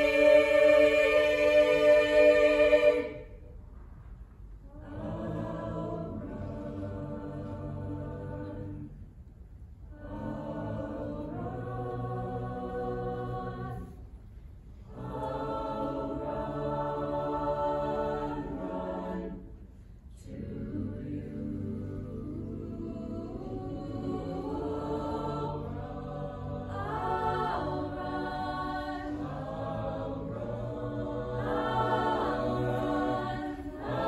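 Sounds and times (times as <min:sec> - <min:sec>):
mixed choir singing held chords: 0:00.0 - 0:03.5, 0:04.6 - 0:09.0, 0:09.9 - 0:14.2, 0:14.8 - 0:34.0.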